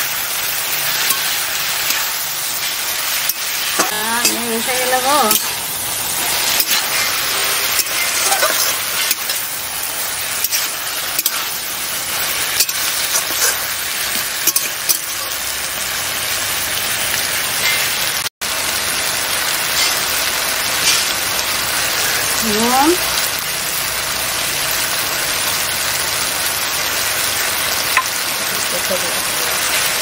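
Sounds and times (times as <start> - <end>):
frying hiss in a wok: 0.0 - 30.0.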